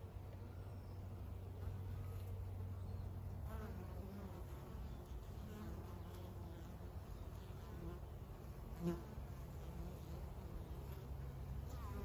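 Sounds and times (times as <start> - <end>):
honey bees buzzing: 1.4 - 12.0.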